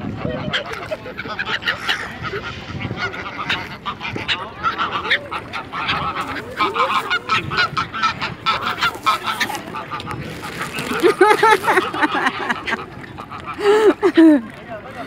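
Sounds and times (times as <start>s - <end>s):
geese honking: 0.1s - 14.0s.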